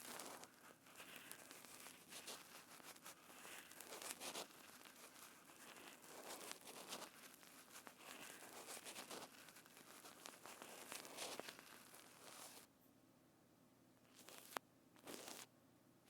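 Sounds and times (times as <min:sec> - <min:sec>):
crackling crinkling handling noise: 0:00.0 - 0:12.7, 0:14.1 - 0:15.5.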